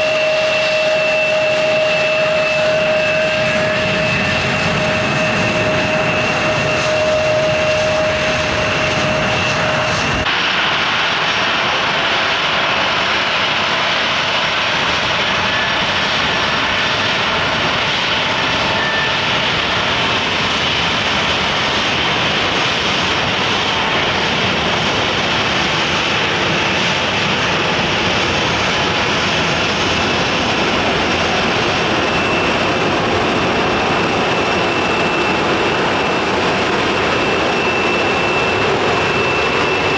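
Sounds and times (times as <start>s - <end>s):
jet engine whine: 0.0s - 39.9s
jet engines rushing: 0.0s - 39.9s.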